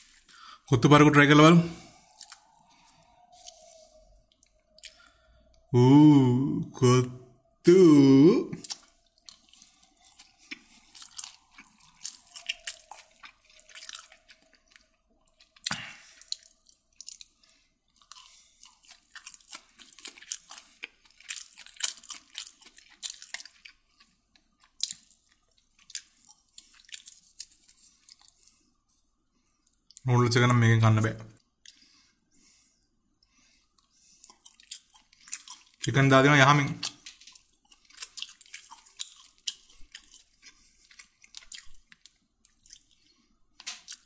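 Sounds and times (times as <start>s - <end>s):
chewing and wet mouth sounds: 1.2s - 5.7s, 8.5s - 30.1s, 31.0s - 44.0s.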